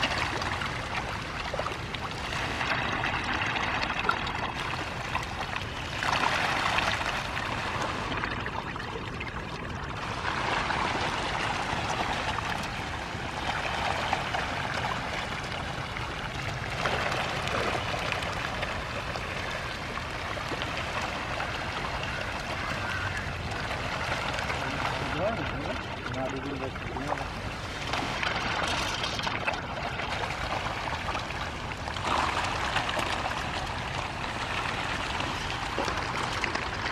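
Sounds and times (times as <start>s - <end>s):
fish splashing and churning water: 0.0s - 36.9s.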